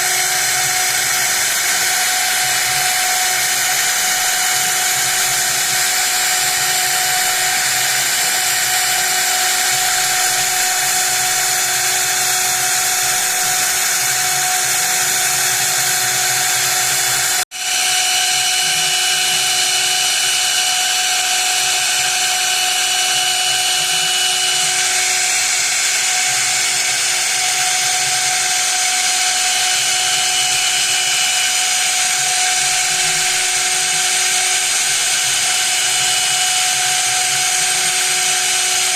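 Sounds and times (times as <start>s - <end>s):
cnc spindle whining: 0.0s - 38.9s.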